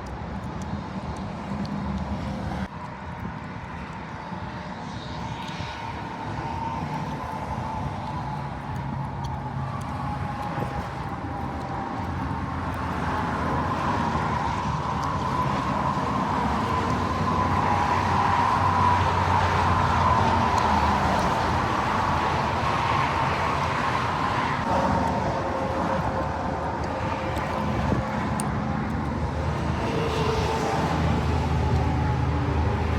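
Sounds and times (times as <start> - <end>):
vehicle engine and road noise: 0.0 - 32.9.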